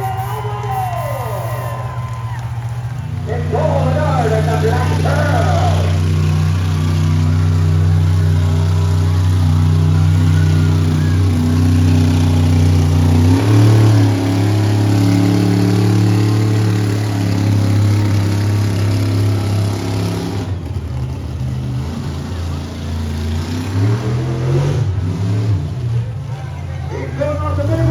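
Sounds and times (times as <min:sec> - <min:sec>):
monster truck engine running: 0:00.0 - 0:27.9.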